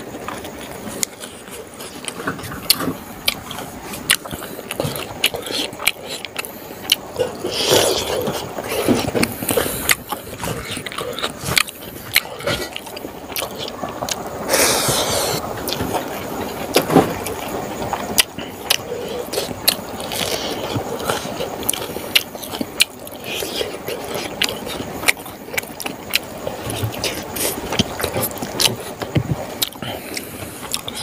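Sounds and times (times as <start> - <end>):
chewing food: 0.0 - 31.0.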